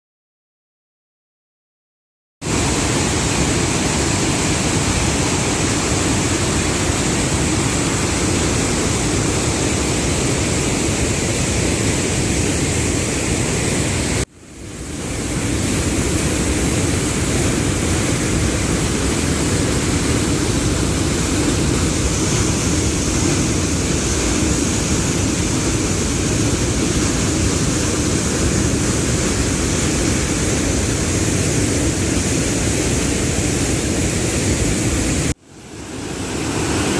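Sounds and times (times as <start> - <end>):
waterfall rushing: 2.4 - 36.9.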